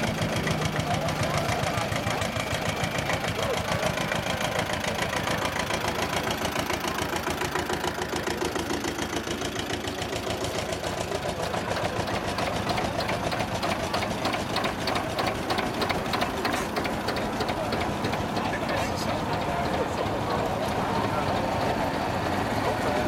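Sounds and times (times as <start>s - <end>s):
tractor diesel engines chugging: 0.0s - 23.0s.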